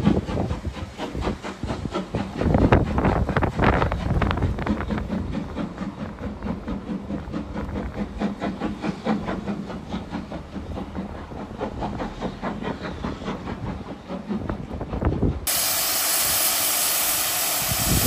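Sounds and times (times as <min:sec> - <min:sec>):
steam hissing: 0:00.0 - 0:18.0
steam locomotive exhaust beats: 0:00.0 - 0:18.0.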